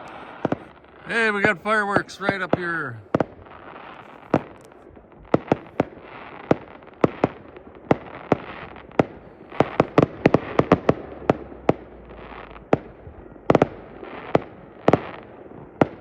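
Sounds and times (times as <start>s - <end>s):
crackling hiss: 0.0s - 16.0s
fireworks bangs: 0.0s - 16.0s.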